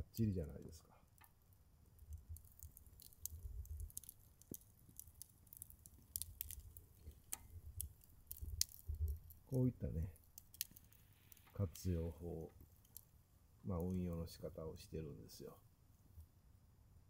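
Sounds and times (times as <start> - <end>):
firewood crackling and popping: 0.0 - 15.6
low fire rumble: 0.0 - 15.6.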